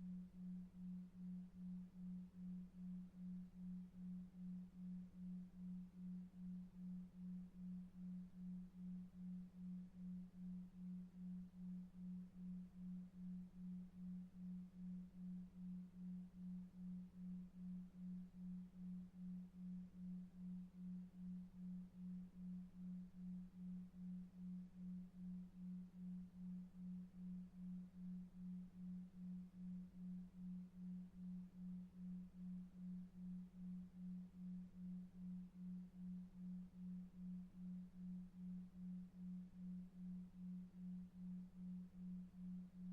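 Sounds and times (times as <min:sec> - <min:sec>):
pulsing low sine tone: 0:00.0 - 0:42.9.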